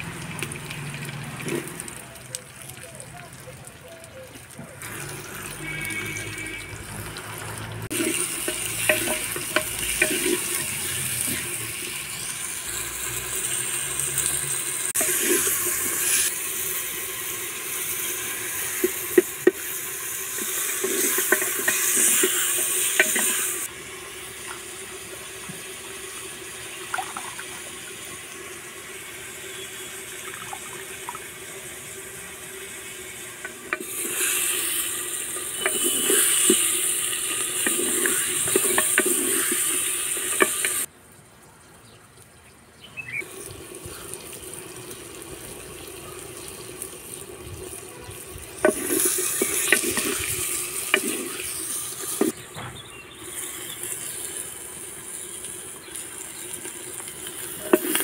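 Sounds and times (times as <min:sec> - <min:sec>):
watery hiss: 0:00.0 - 0:40.9, 0:43.2 - 0:58.0.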